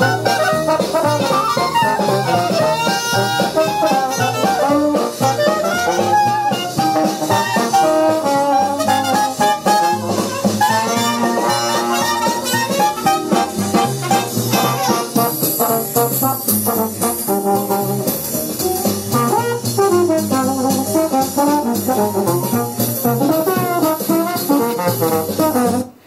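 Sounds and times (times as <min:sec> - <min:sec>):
music from record player speakers: 0:00.0 - 0:26.0.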